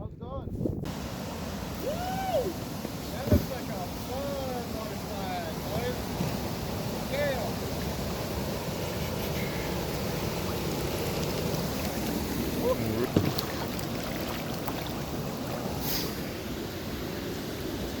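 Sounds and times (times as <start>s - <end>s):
wind: 0.0s - 18.0s
lake water: 0.9s - 18.0s.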